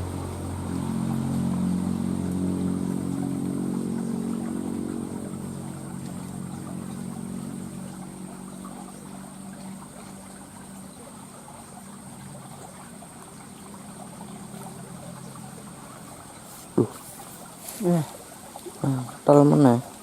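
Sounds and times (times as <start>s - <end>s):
engine hum: 0.0s - 20.0s
water trickling and lapping: 0.0s - 20.0s.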